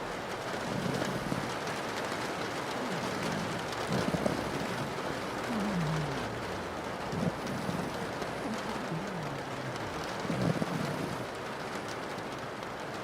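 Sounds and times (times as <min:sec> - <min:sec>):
rain on a window: 0:00.0 - 0:13.0
dog snoring: 0:00.5 - 0:11.8.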